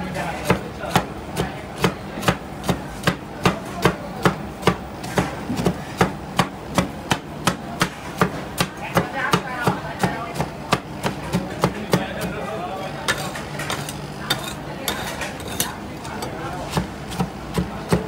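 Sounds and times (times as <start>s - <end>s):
metal spatulas chopping on steel plate: 0.4s - 18.0s.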